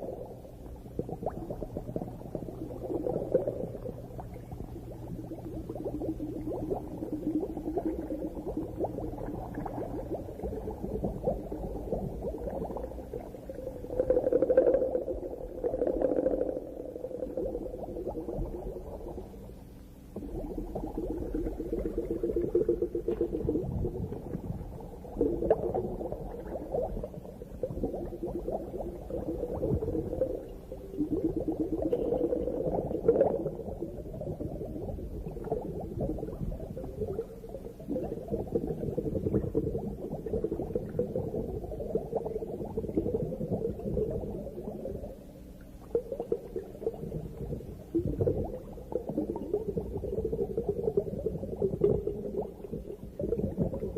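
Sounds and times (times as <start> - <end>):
underwater bubbling and gurgling: 0.0 - 53.9.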